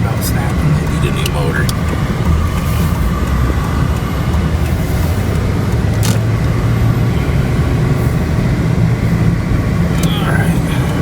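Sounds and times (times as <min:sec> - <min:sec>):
car interior engine and road hum: 0:00.0 - 0:11.0.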